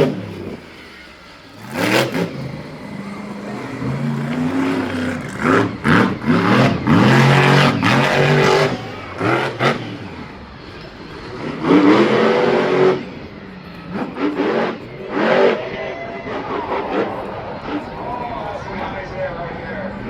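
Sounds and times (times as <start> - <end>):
racing engine revving: 0.0 - 20.0.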